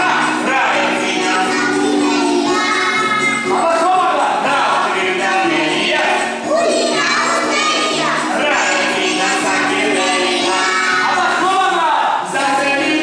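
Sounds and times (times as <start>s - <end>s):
children singing: 0.0s - 13.0s
instrumental accompaniment: 0.0s - 13.0s.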